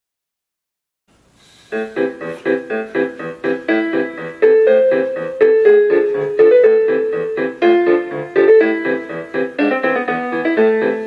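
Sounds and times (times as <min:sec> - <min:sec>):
keyboard piano melody: 0:01.7 - 0:11.0
pulsing chord accompaniment: 0:01.8 - 0:11.0.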